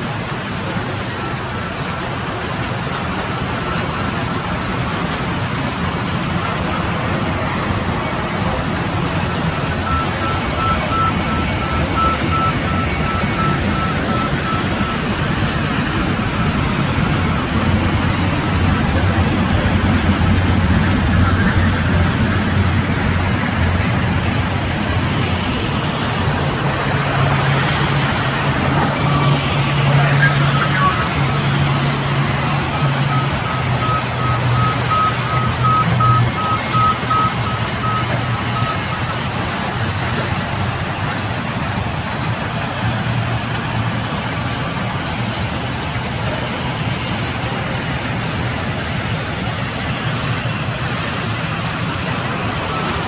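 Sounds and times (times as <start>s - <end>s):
band saws running: 0.0s - 53.0s.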